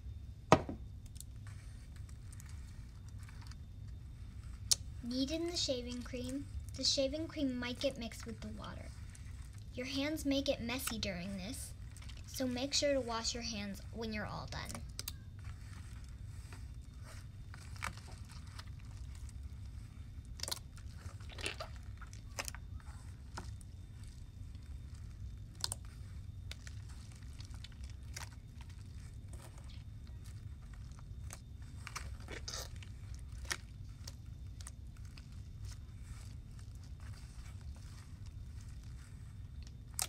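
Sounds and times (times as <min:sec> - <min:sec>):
crunchy slime crackling: 0:00.0 - 0:40.0
steady low hum: 0:00.0 - 0:40.0.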